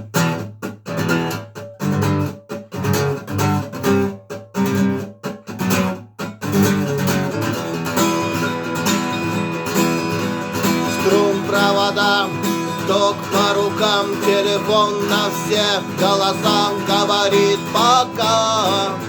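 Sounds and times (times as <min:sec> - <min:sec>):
strummed guitar chords: 0:00.0 - 0:19.0.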